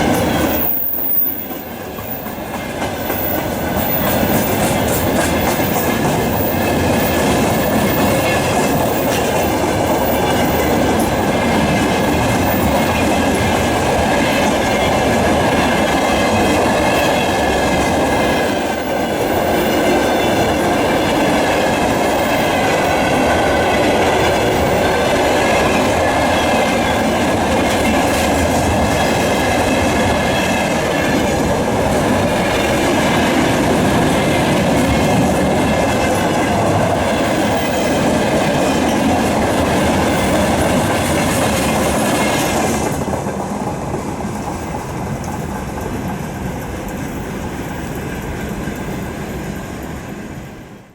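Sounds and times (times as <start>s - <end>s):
train wheels clattering over rail joints: 0.0s - 50.0s
freight train rumble: 0.0s - 50.9s
high ringing of rails: 0.0s - 50.9s.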